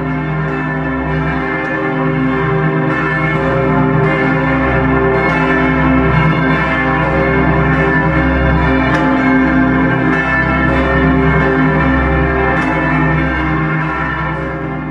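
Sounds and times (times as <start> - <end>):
bells pealing: 0.0 - 14.9.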